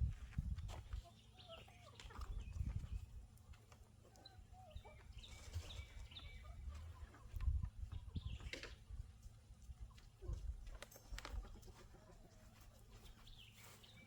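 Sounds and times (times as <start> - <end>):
chickens chirping: 0.4 - 14.0
chickens clucking: 0.6 - 14.0.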